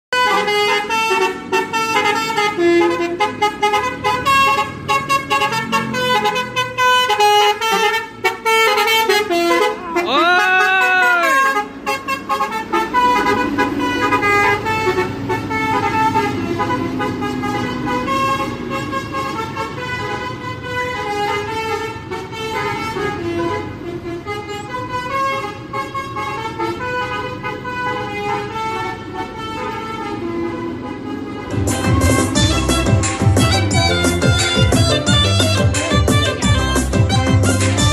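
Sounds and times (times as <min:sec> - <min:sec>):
musical air horns playing melody: 0:00.1 - 0:37.9.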